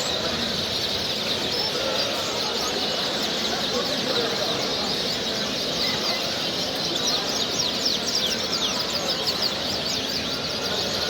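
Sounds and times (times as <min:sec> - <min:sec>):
murmur of voices: 0:00.0 - 0:11.0.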